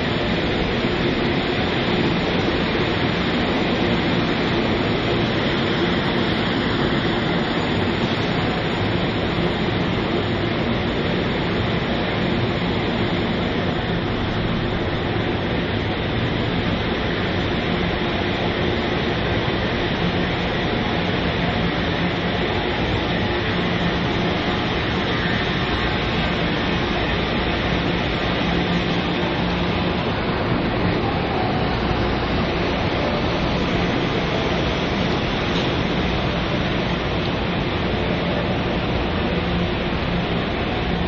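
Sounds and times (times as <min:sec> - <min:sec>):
passenger trains humming and rushing: 0:00.0 - 0:41.0.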